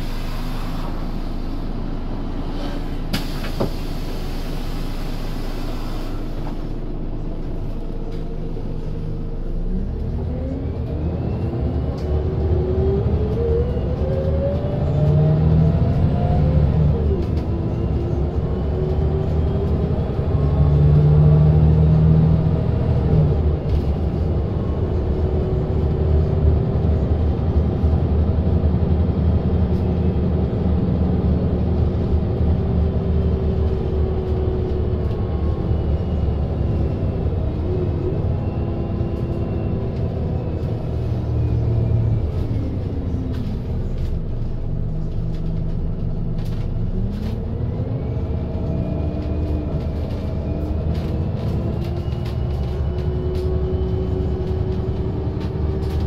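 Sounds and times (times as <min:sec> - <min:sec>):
bus engine pulling away: 0:00.0 - 0:56.0.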